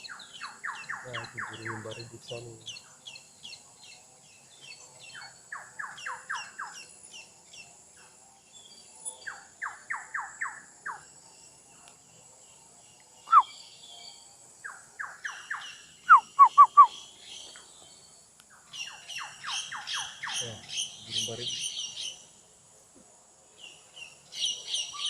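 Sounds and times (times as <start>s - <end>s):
forest birds singing: 0.0s - 25.0s
high insect buzz: 0.0s - 25.0s.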